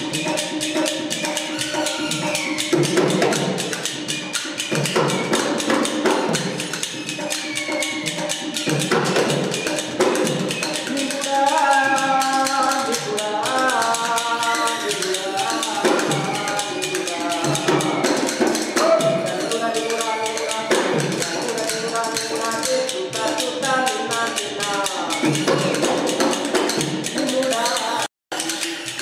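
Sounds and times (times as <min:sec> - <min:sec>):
rapid hand percussion jingling: 0:00.0 - 0:29.0.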